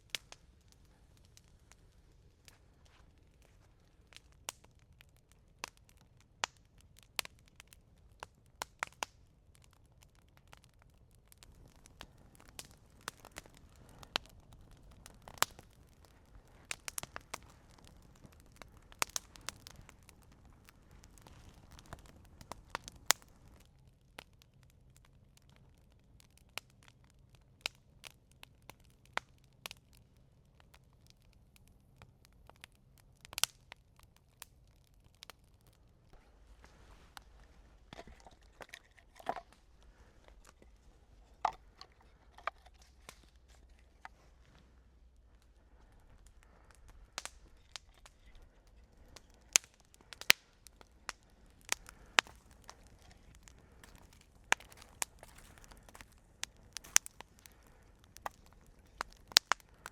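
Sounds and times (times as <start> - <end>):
dry wood crackling and snapping: 0.0 - 59.9.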